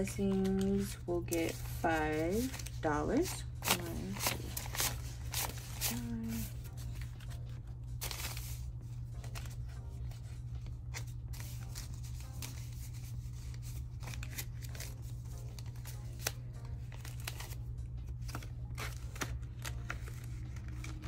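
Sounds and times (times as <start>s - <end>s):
banknotes rustling: 0.0s - 21.0s
soft background music: 0.0s - 21.0s.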